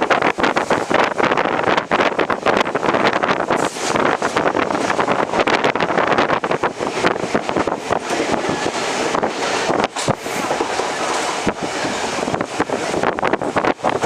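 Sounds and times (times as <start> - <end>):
train running at speed: 0.0 - 14.0
wind buffeting microphone: 0.0 - 14.0.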